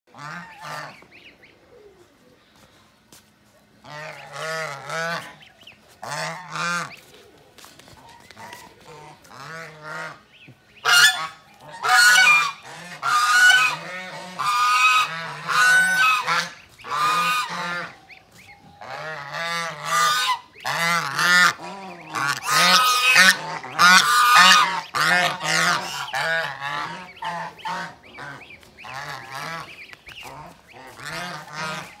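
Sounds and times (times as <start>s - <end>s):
geese honking: 0.1s - 1.3s, 3.8s - 7.3s, 8.0s - 32.0s.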